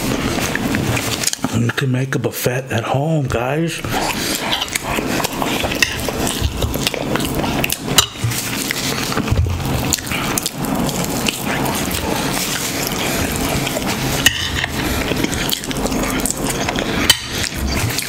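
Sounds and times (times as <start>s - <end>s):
wet chewing and mouth sounds: 0.0s - 1.8s, 3.8s - 18.0s.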